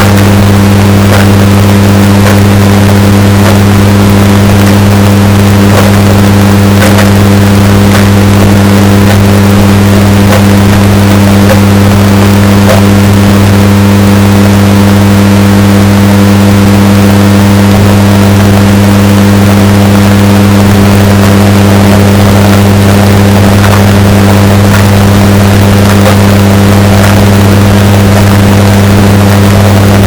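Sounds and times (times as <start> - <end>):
distorted washing machine hum: 0.0 - 30.0.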